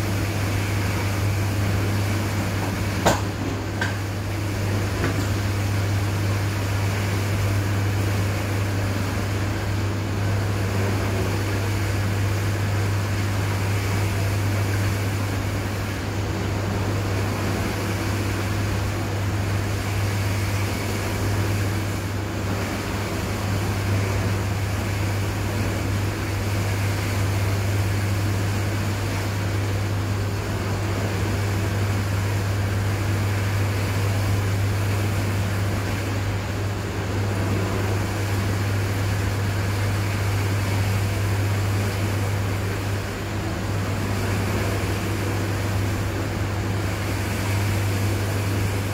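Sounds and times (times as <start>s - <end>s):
pump motor hum: 0.0s - 48.9s.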